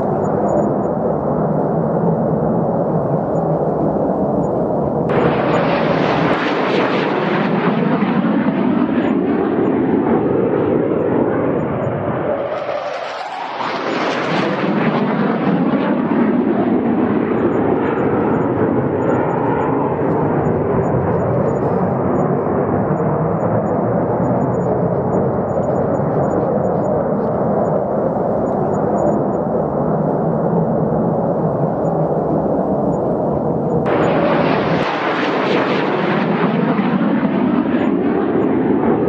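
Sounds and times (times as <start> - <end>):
fighter jet engine roar: 0.0 - 39.0.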